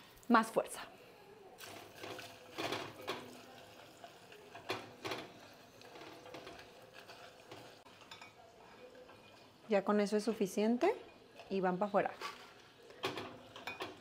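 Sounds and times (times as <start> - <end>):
chiles in hot oil: 0.0 - 14.0.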